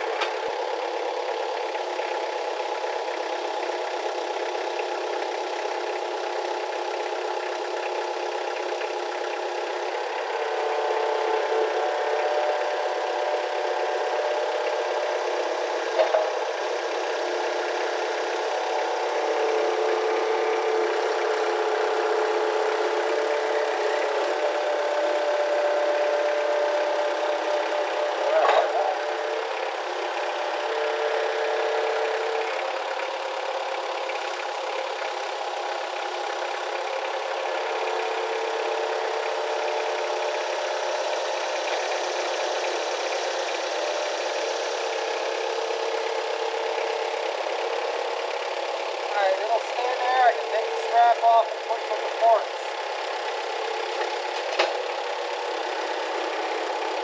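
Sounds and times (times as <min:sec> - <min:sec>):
loader engine running: 0:00.0 - 0:57.0.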